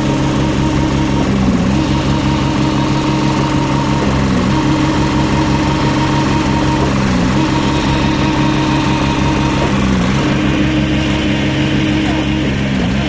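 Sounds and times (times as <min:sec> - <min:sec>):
concrete pump engine running: 0:00.0 - 0:13.0.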